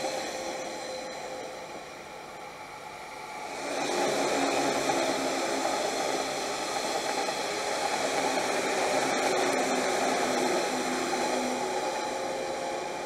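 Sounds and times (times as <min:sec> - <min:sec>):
passenger trains passing: 0:00.0 - 0:13.0.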